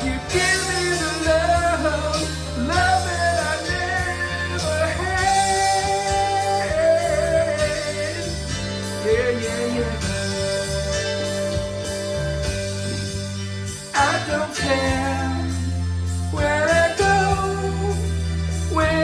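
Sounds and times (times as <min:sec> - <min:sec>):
rock-pop band playing: 0:00.0 - 0:19.0.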